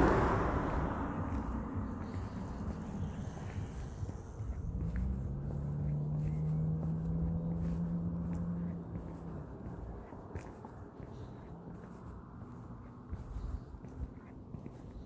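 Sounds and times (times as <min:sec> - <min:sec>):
footsteps on concrete: 0:00.0 - 0:15.0
low outdoor rumble: 0:00.0 - 0:15.0.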